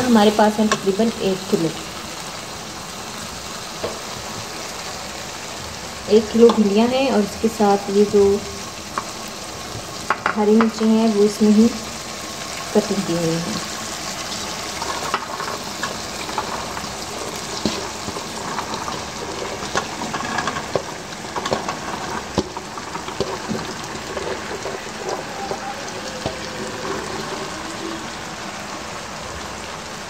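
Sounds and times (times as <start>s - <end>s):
spices sizzling in oil: 0.0s - 30.0s.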